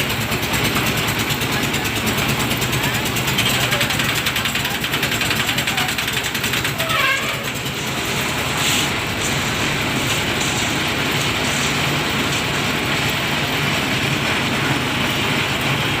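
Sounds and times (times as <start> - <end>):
concrete mixer rumbling: 0.0 - 16.0.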